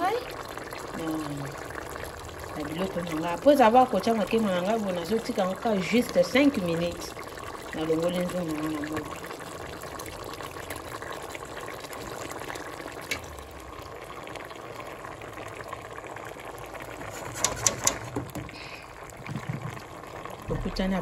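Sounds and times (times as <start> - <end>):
stew bubbling in a pot: 0.0 - 21.0.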